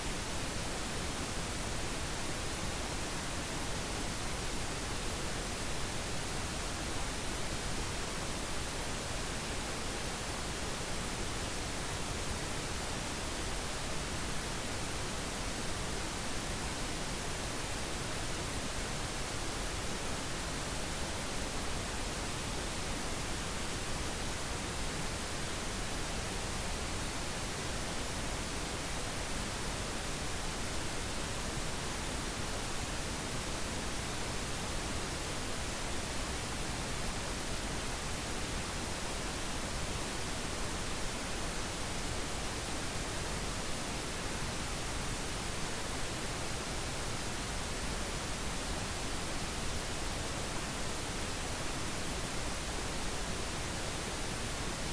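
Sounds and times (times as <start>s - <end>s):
pink noise hiss: 0.0s - 54.9s.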